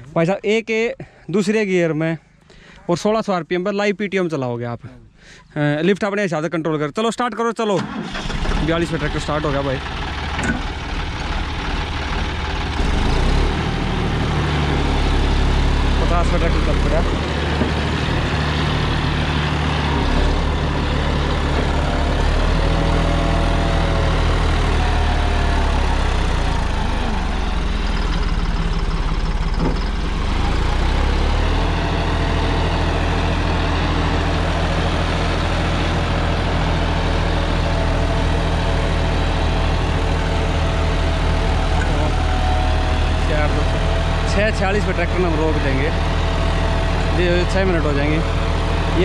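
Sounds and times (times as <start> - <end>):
tractor diesel engine under load: 7.7 - 49.0.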